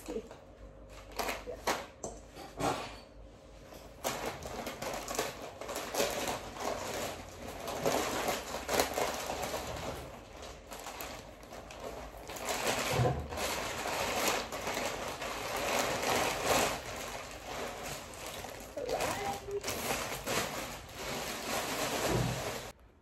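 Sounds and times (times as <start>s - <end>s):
chip bag crinkling: 4.0s - 22.8s.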